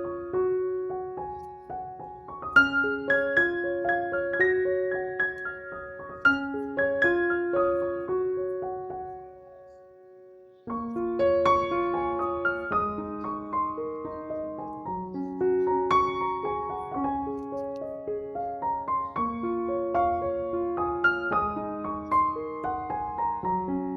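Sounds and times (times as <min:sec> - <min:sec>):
gentle piano melody: 0:00.0 - 0:23.9.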